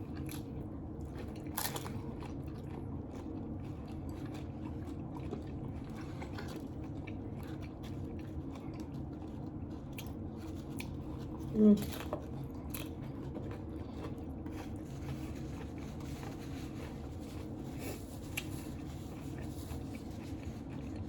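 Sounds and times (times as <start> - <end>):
chewing with crunches and smacks: 0.0 - 21.0
low background hum: 0.0 - 21.0.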